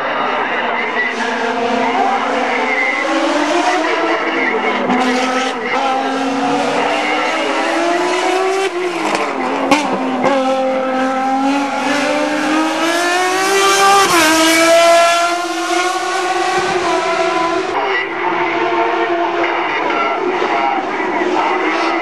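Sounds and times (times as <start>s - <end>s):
racing car engine revving: 0.0s - 22.0s.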